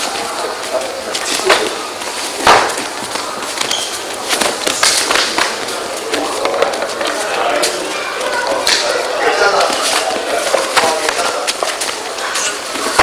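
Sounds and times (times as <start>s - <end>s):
feet striking mat: 0.0s - 13.0s
onlookers' voices: 0.0s - 13.0s.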